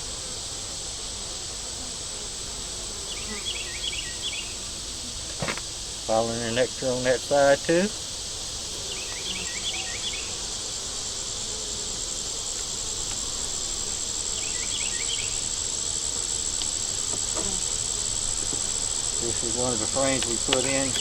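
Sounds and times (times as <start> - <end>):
high insect trill: 0.0 - 21.0
honey bees buzzing: 0.0 - 21.0.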